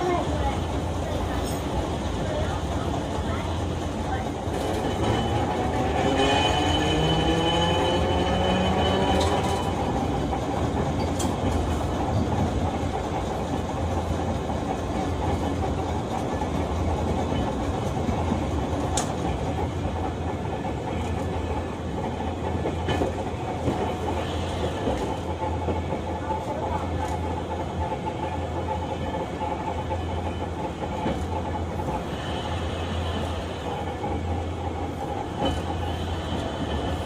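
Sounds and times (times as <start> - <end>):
rail clicks and knocks: 0.0 - 37.0
streetcar whine: 0.0 - 37.0
wheels rumbling on track: 0.0 - 37.0.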